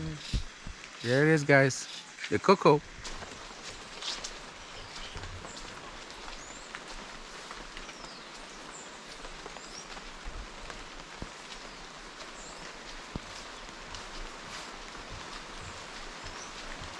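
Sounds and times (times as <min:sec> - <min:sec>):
birds chirping: 0:00.0 - 0:16.9
outdoor hiss: 0:00.0 - 0:16.9.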